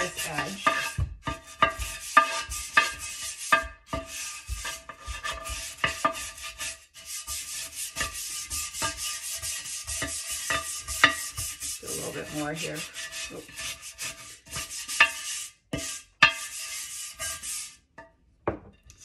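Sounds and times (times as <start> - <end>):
brush scrubbing stone: 0.0 - 17.8.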